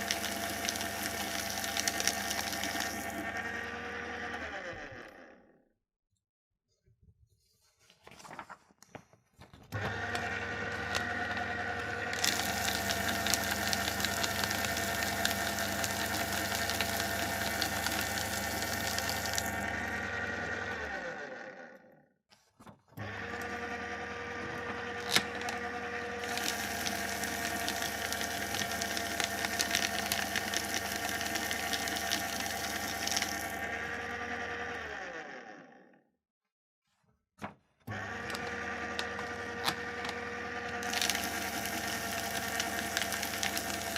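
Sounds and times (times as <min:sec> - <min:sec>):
shredder crunching paper: 0:00.0 - 0:05.4, 0:09.5 - 0:21.7, 0:22.4 - 0:35.8, 0:37.9 - 0:43.9
paper shredder motor humming: 0:00.0 - 0:05.7, 0:09.6 - 0:22.0, 0:22.6 - 0:36.0, 0:37.8 - 0:43.9.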